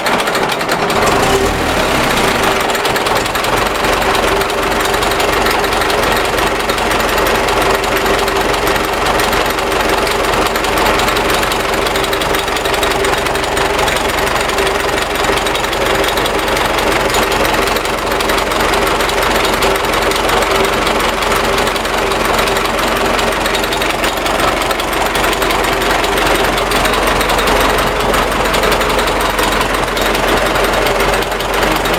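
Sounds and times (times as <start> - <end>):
rapid engine knock: 0.0 - 31.9
tractor diesel engine running: 0.0 - 31.9.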